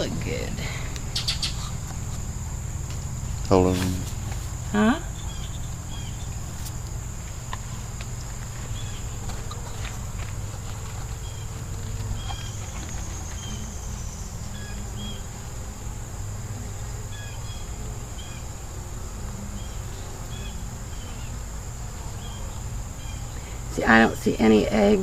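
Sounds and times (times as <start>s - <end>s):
insect chorus: 0.0s - 25.0s
low steady hum: 0.0s - 25.0s
short insect chirps: 0.8s - 23.7s.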